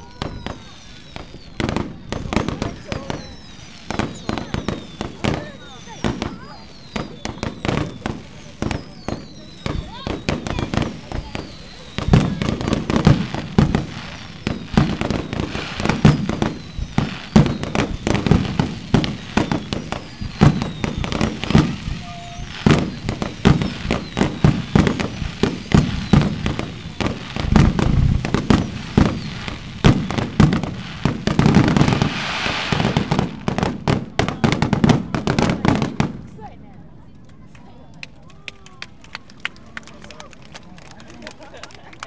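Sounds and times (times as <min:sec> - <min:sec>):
fireworks bursting with loud bangs: 0:00.0 - 0:36.6
fireworks crackle: 0:00.0 - 0:37.8.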